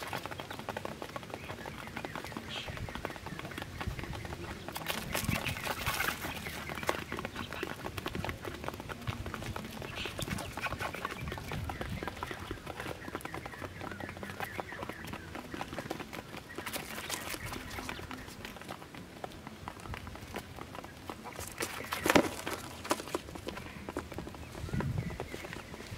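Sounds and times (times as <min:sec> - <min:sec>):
quail pecking on cardboard: 0:00.0 - 0:25.9.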